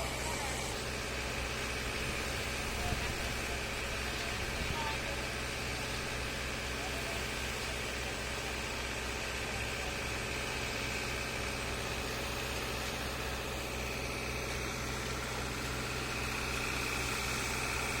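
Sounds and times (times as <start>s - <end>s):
heavy engine idling with whine: 0.0s - 18.0s.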